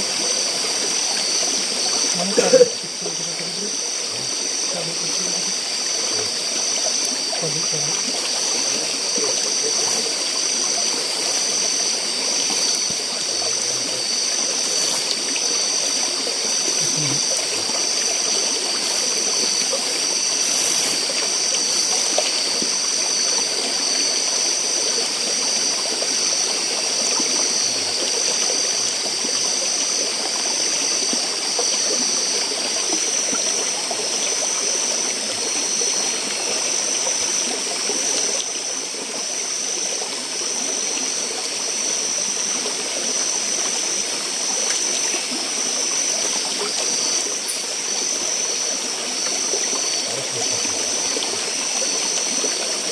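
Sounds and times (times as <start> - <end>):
forest stream running: 0.0 - 52.9.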